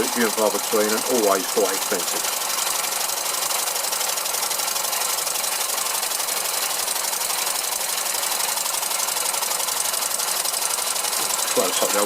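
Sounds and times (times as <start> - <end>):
model engine mechanical clatter: 0.0 - 12.0.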